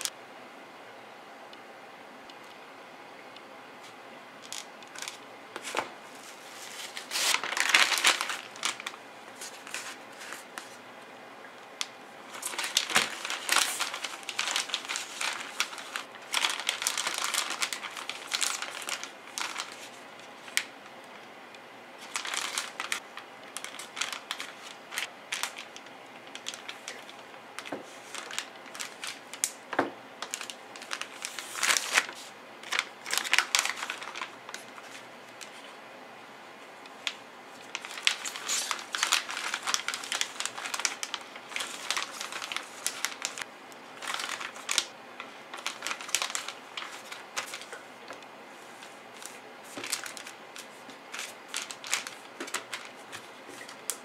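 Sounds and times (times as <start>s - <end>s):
plastic bag crinkling: 4.4s - 10.8s, 11.8s - 20.8s, 22.0s - 35.7s, 36.9s - 54.0s.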